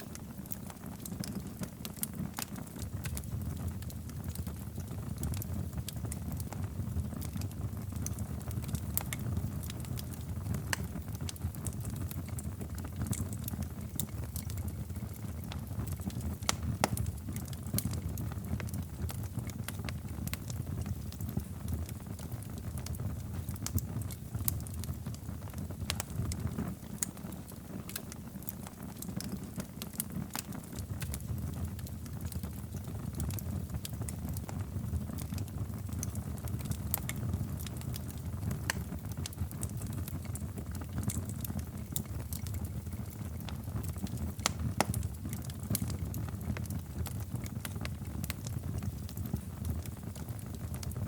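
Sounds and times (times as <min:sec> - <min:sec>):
fire crackling and popping: 0:00.0 - 0:51.0
low roar of flames: 0:00.0 - 0:51.0.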